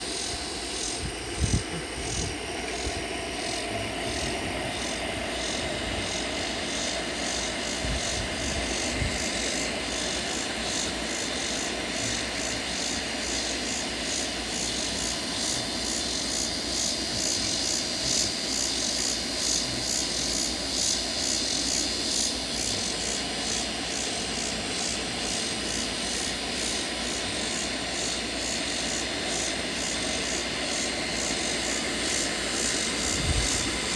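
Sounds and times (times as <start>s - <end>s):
droning hum from sky: 0.0s - 33.9s
insects buzzing: 0.0s - 33.9s.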